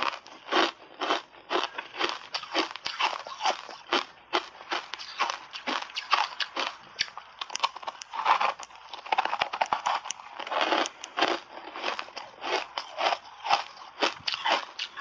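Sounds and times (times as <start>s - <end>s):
ice crunching between teeth: 0.0s - 15.0s.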